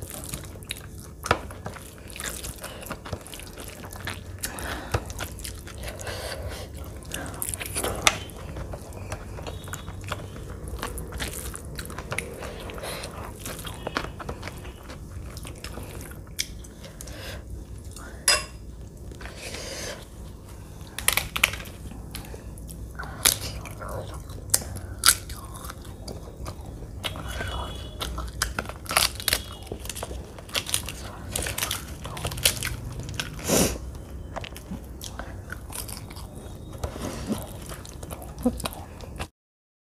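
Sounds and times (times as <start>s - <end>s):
chewing with crisp crunches: 0.0s - 39.3s.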